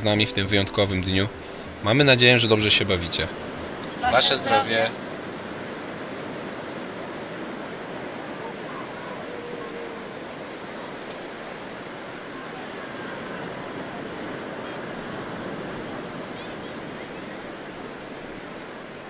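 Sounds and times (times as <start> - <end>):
surf breaking on a beach: 0.4 - 19.0.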